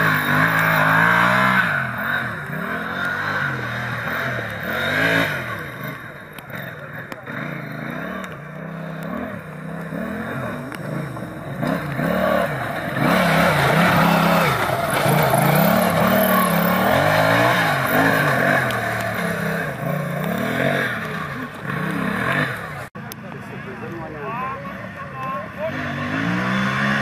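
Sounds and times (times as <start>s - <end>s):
tractor engine revving: 0.0s - 27.0s.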